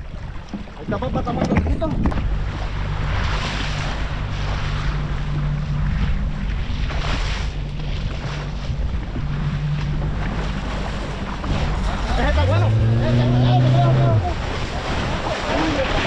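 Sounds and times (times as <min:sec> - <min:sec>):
boat engine running: 0:00.0 - 0:16.0
water rushing past hull: 0:00.0 - 0:16.0
wind buffeting microphone: 0:00.0 - 0:16.0.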